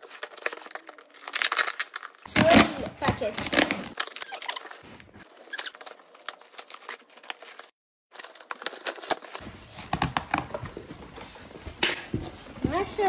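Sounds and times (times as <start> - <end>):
tape and cardboard crinkling: 0.0 - 13.0.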